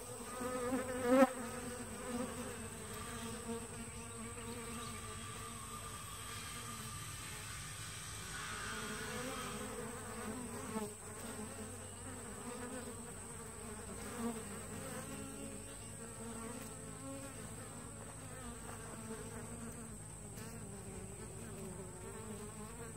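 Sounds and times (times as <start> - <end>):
honey bees buzzing: 0.0 - 22.9.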